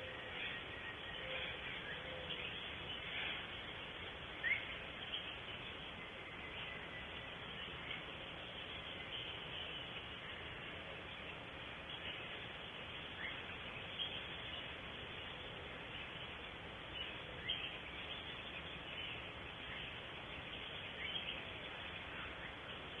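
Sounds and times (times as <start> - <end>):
outdoor ambience hiss: 0.0 - 23.0.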